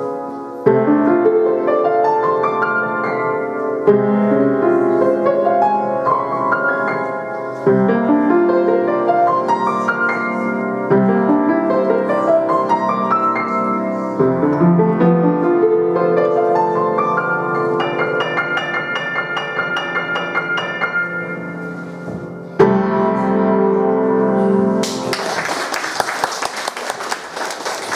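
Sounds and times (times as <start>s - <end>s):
solo piano piece: 0.0s - 25.4s.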